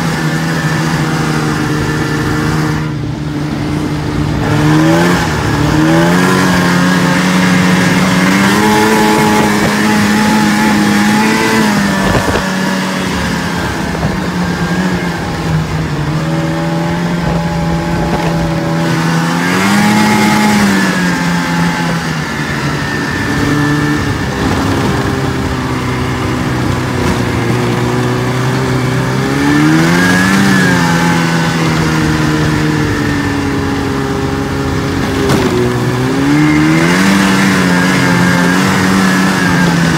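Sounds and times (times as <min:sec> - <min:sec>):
snowmobile engine revving: 0:00.0 - 0:39.9
track and wind rush: 0:00.0 - 0:39.9.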